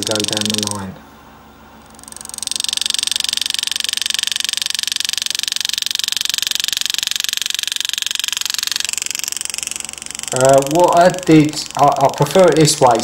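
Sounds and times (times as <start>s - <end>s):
engraving tool high-pitched buzz: 0.0s - 0.8s, 1.8s - 13.0s.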